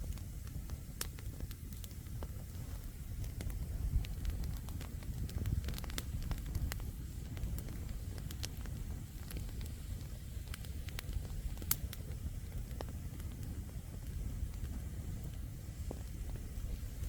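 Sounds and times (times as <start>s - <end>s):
crackling and popping logs: 0.0s - 17.0s
fire low rumble: 0.0s - 17.0s.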